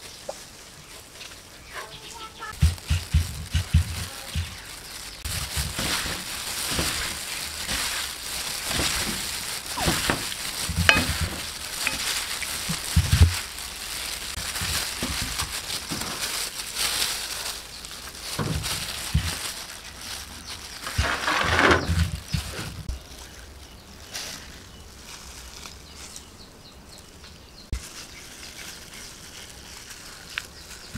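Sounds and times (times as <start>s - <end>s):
plastic gloves crinkling: 0.0s - 30.9s.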